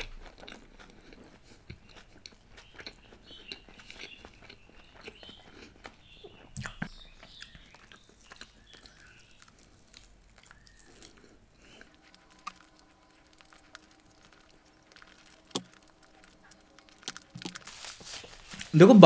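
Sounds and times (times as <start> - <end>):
chewing with lip smacks: 0.0 - 18.8.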